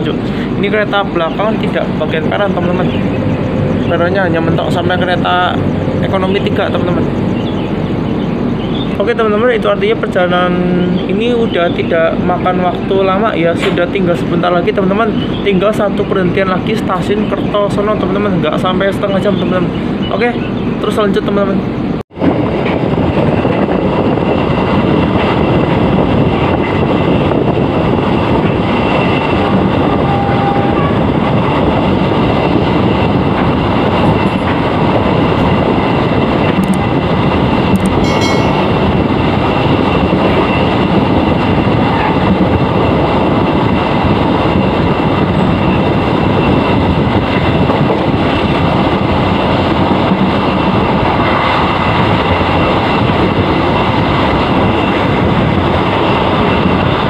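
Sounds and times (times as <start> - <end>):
train wheels rushing on rails: 0.0 - 57.0.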